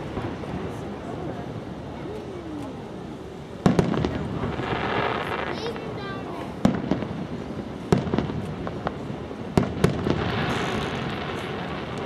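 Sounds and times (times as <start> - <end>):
fireworks bangs: 0.0 - 12.0
fireworks hiss: 0.0 - 12.0.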